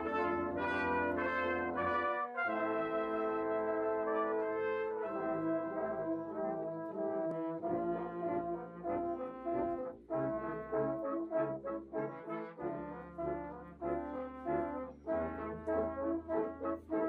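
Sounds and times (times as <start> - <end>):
brass instruments playing chords: 0.0 - 17.0.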